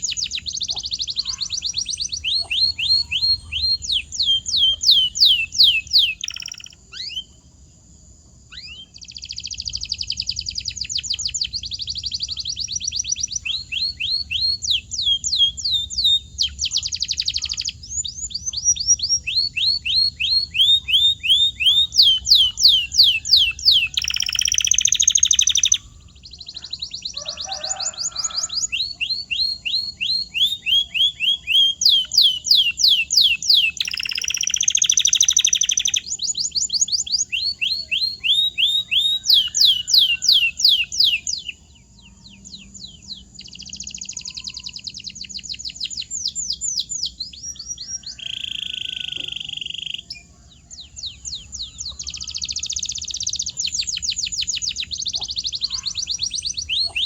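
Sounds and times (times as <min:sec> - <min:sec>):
canary singing: 0:00.0 - 0:07.5, 0:08.5 - 0:57.0.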